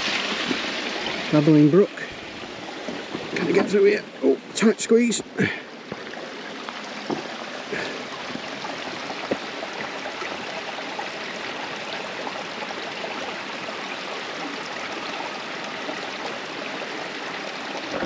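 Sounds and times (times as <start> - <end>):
brook running over rocks: 0.0 - 18.0.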